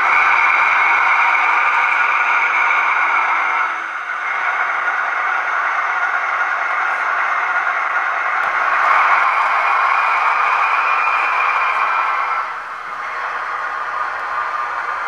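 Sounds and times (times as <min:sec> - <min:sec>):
diesel engine sound from small speaker: 0:00.0 - 0:15.0.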